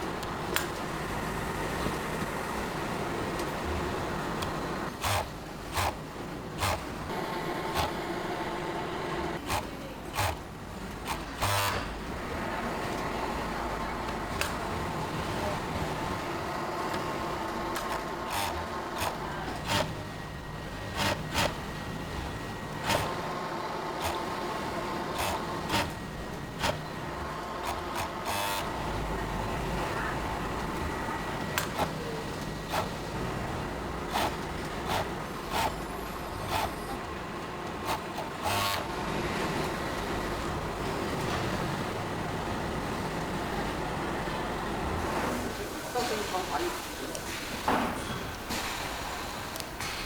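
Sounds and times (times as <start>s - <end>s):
factory machinery humming: 0.0s - 50.0s.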